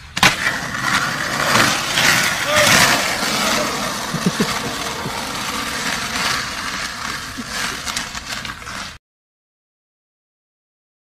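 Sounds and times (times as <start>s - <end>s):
skateboard wheels rolling on concrete: 0.0s - 9.0s.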